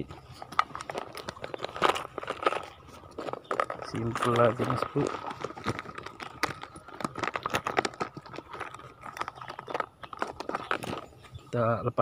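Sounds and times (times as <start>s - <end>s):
clicking and rattling of handling: 0.0s - 11.4s.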